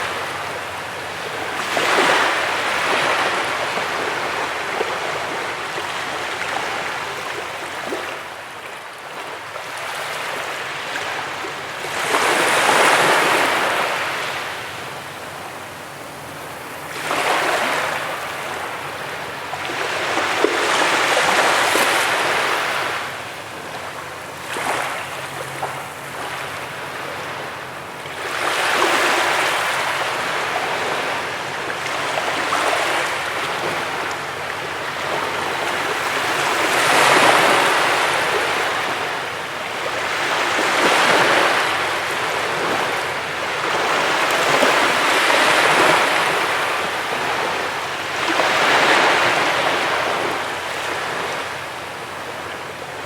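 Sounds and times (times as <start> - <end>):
sea waves breaking: 0.0 - 53.0.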